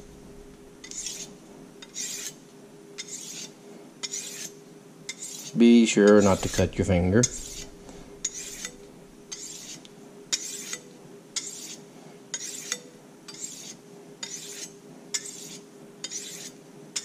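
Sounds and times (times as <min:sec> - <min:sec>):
knife scraping on sharpening stone: 0:00.8 - 0:02.4, 0:03.0 - 0:17.0.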